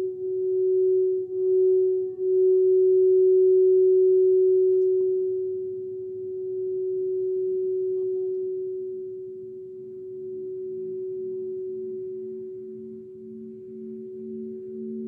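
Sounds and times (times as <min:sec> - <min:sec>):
sustained low ringing tone: 0:00.0 - 0:15.0.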